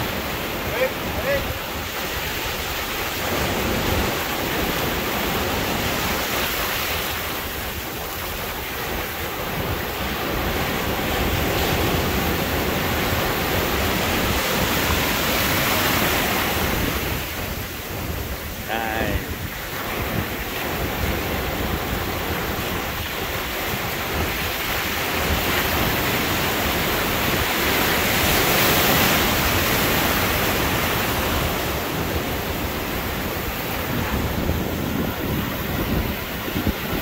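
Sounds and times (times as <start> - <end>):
ocean surf breaking: 0.0 - 37.0
wind buffeting microphone: 0.0 - 37.0.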